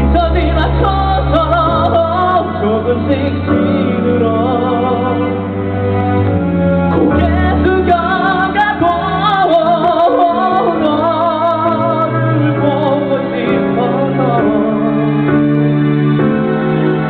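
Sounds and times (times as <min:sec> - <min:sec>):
person singing with vibrato: 0:00.0 - 0:05.9, 0:06.8 - 0:15.6.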